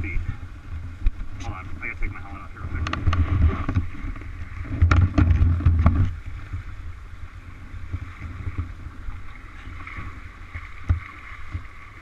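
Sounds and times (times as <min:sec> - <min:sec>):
microphone handling rumble: 0:00.0 - 0:11.8
river water rushing: 0:00.0 - 0:12.0
wind buffeting microphone: 0:00.0 - 0:12.0.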